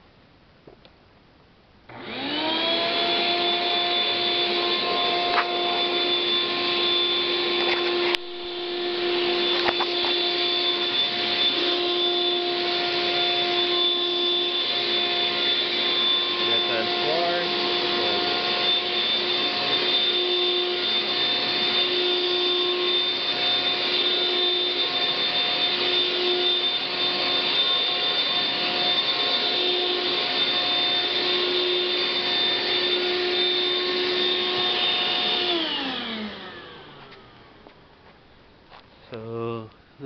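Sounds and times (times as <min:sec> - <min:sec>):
vacuum motor winding down: 0:01.9 - 0:37.9
vacuum cleaner running: 0:01.9 - 0:38.9.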